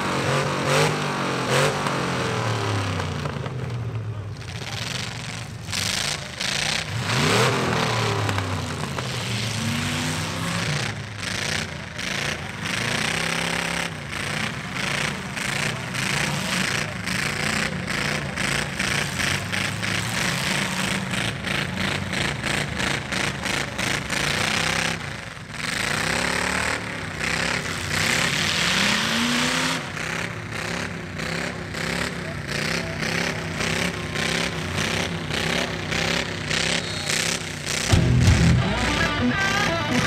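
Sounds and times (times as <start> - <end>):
truck engines revving roughly: 0.0 - 40.0.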